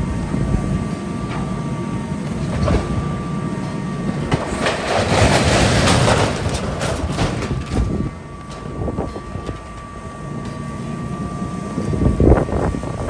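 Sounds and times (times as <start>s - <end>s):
metal clanks: 0.6s - 13.0s
scraping and rattling: 2.2s - 13.0s.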